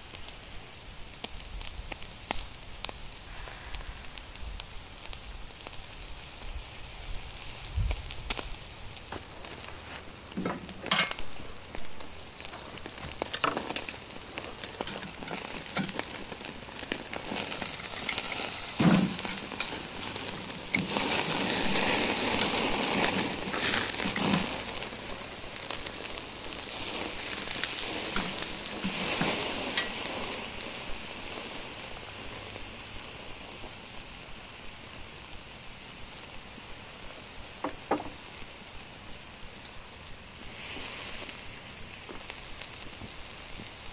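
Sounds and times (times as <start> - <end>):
steak sizzling on a grill: 0.0 - 43.9.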